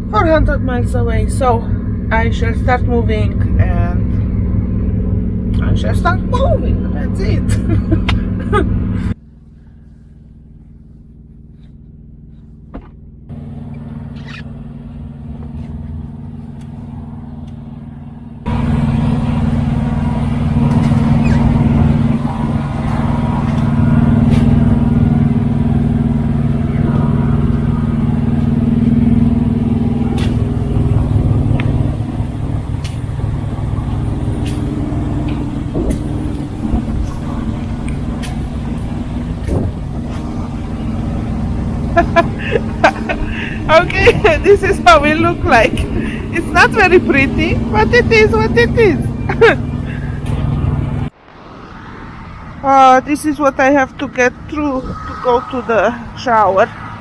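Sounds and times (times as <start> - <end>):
diesel truck engine idling: 0.0 - 51.2.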